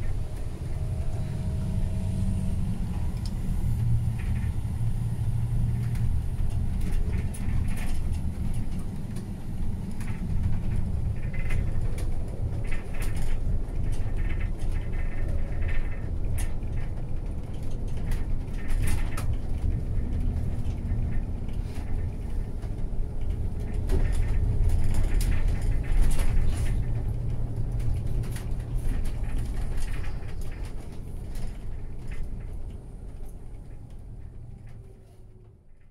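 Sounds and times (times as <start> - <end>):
engine and road rumble: 0.0 - 35.9
cabin rattles and creaks: 5.8 - 34.9.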